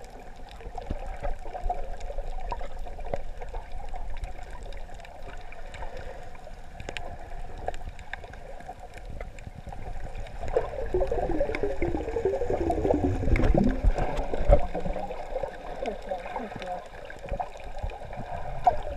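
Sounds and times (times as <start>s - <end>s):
bubbling gurgles: 0.0s - 18.9s
muffled underwater rumble: 0.0s - 18.9s.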